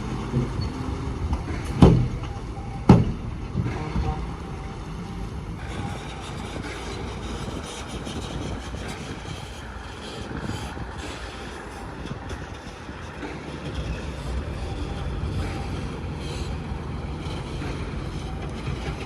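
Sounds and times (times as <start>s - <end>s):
heavy diesel machinery rumbling: 0.0s - 19.0s.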